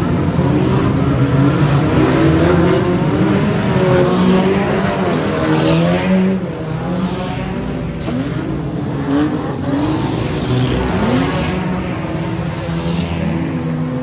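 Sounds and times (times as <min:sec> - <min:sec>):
racing car engines revving: 0:00.0 - 0:14.0.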